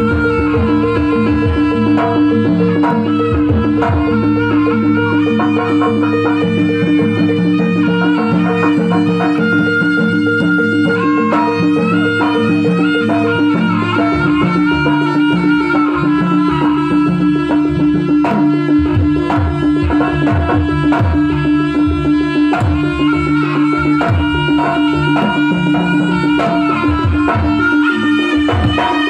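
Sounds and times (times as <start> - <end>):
hand drum strokes: 0.0 - 29.0
reedy shawm melody: 0.0 - 29.0.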